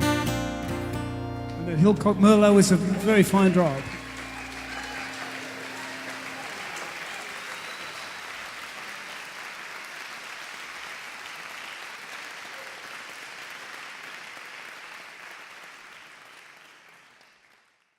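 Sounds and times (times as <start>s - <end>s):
audience applauding: 1.6s - 17.9s.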